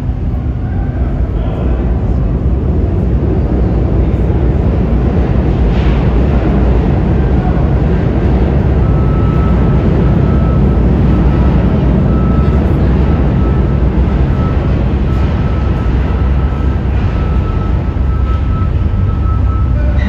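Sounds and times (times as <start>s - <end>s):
subway train wheels rumbling: 0.0s - 20.0s.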